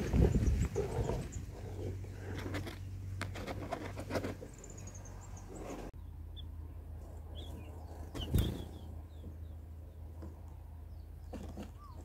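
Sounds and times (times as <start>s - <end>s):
small birds chirping: 0.0s - 3.0s, 4.2s - 12.0s.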